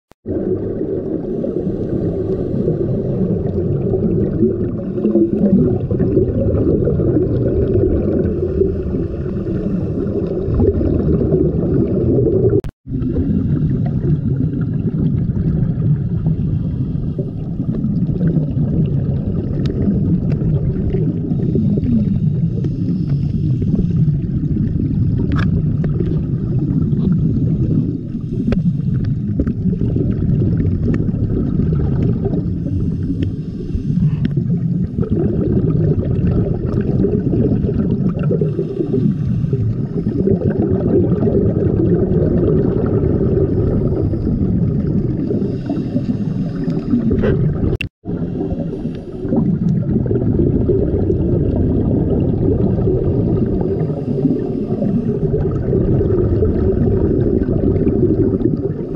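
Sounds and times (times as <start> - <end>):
underwater bubbles gurgling: 0.2 - 58.9.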